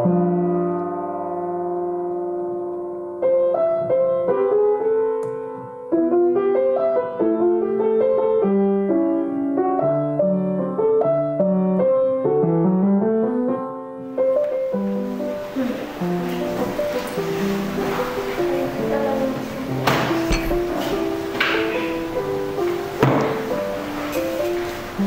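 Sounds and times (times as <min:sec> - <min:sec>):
solo piano melody: 0:00.0 - 0:25.0.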